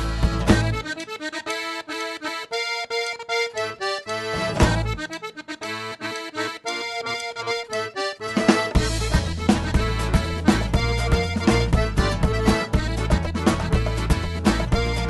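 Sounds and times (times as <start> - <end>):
accordion rumba music: 0.0 - 15.0.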